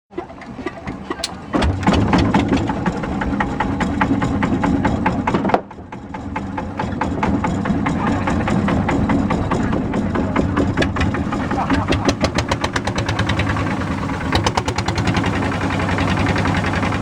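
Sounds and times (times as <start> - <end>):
boat engine running: 0.1 - 17.0.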